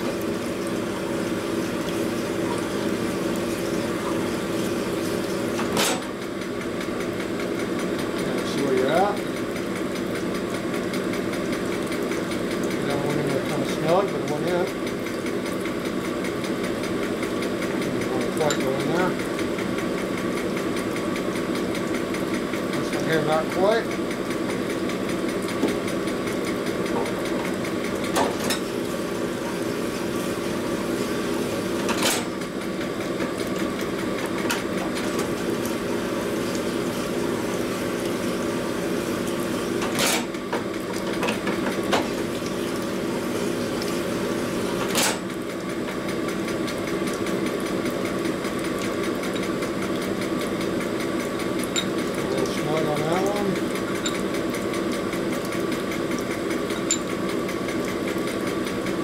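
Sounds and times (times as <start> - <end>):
honing machine motor running: 0.0 - 59.0.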